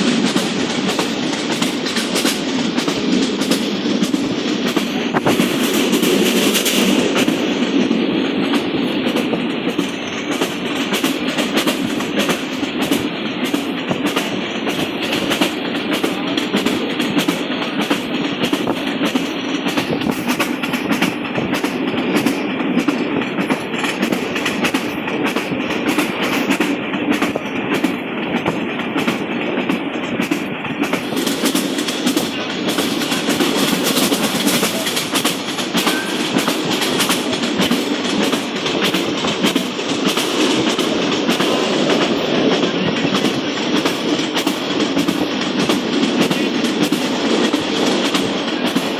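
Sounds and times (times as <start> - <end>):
train rumble: 0.0 - 48.9
wheels clattering over rails: 0.0 - 48.9.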